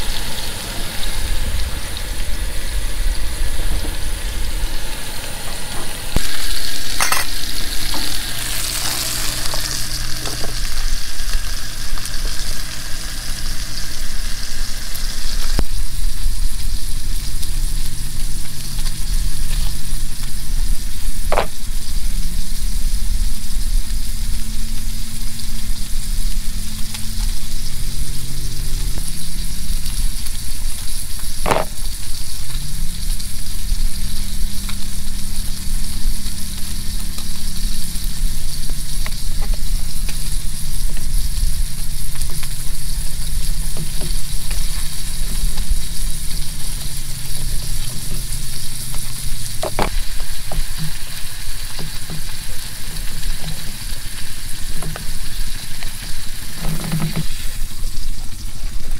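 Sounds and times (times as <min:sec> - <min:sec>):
low engine drone: 0:00.0 - 0:58.9
steak sizzling in pan: 0:00.0 - 0:58.9.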